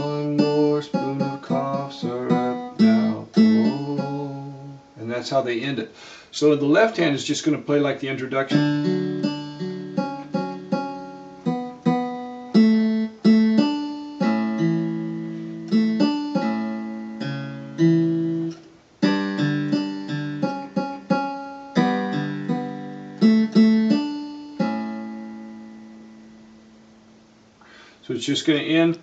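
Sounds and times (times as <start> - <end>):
keyboard playing guitar notes: 0.0 - 5.0, 8.3 - 27.5.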